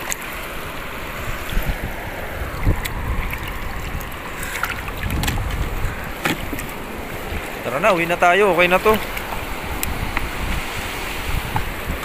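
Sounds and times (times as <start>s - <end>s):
seawater sloshing over rocks: 0.0s - 12.0s
wind rumbling on microphone: 0.0s - 12.0s.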